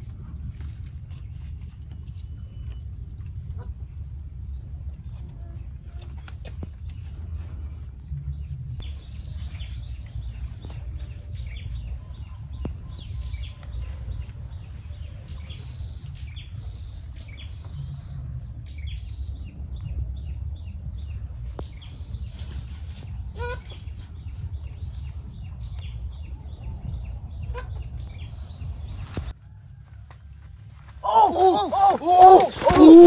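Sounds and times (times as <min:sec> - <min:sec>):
low rumble: 0:00.0 - 0:31.0
birds chirping: 0:01.0 - 0:29.1, 0:30.9 - 0:33.0.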